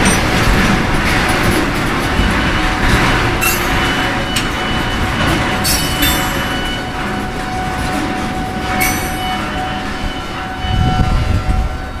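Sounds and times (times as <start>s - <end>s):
freight train rolling past: 0.0s - 12.0s
wheels clacking over rail crossing: 0.0s - 12.0s
thin steady ring from wheels: 2.1s - 12.0s.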